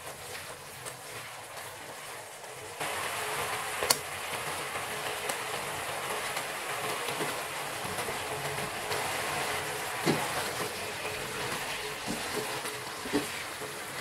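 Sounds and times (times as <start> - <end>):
sauce sizzling in frying pan: 0.0 - 14.0.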